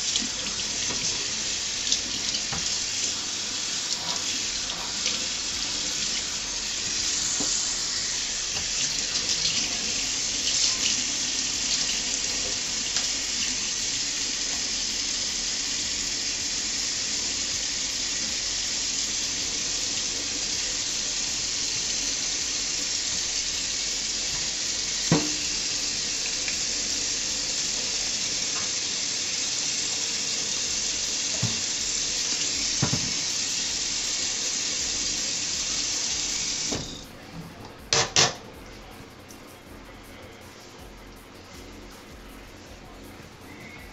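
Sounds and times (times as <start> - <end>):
faucet running into steel sink: 0.0 - 37.0.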